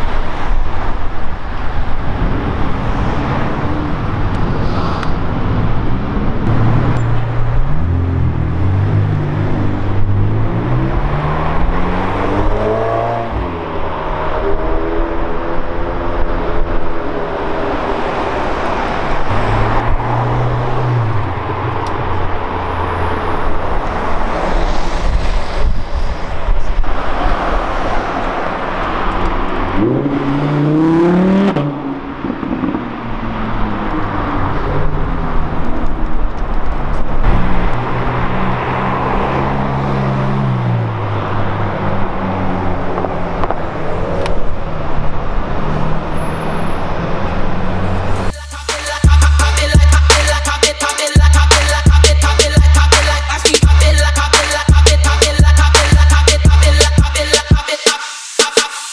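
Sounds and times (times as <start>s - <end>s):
sports car engines: 0.0s - 57.5s
cars pulling away and passing: 0.0s - 58.9s.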